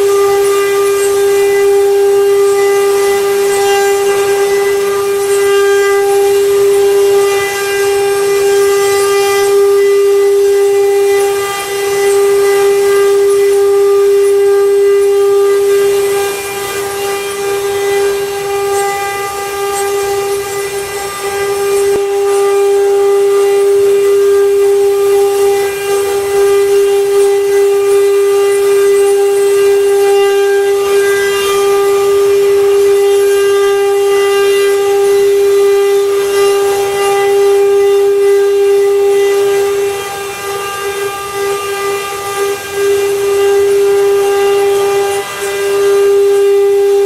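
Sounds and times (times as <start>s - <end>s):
router spindle whine: 0.0s - 47.0s.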